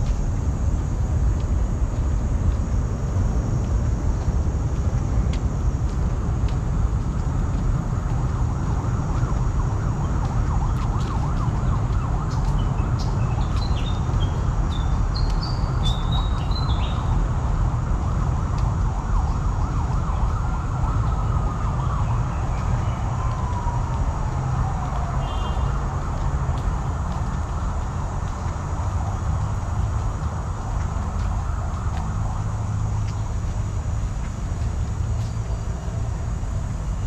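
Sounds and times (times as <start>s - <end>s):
city traffic rumble: 0.0s - 37.0s.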